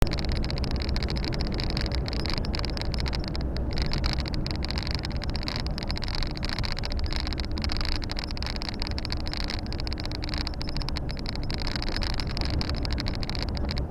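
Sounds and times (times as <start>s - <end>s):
road noise: 0.0s - 13.9s
truck diesel engine running: 0.0s - 13.9s.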